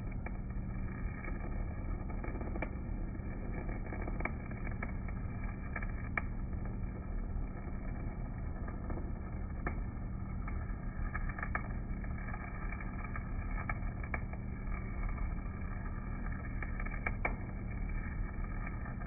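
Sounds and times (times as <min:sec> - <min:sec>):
welding arc crackling and hissing: 0:00.0 - 0:19.0
welding generator hum: 0:00.0 - 0:19.0.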